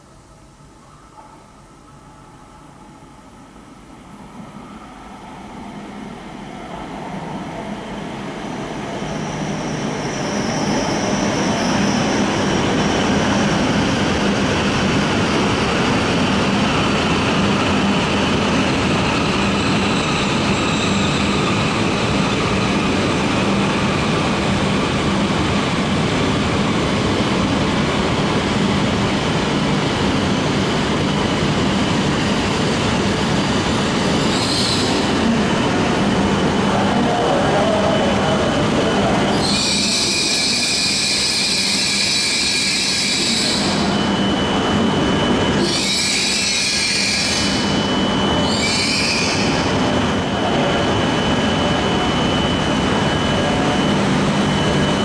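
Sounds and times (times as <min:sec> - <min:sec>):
train rumbling into station: 0:00.0 - 0:55.0.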